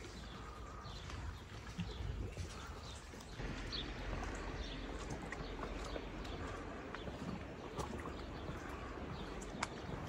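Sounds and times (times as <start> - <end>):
footsteps on a path: 0.0 - 10.0.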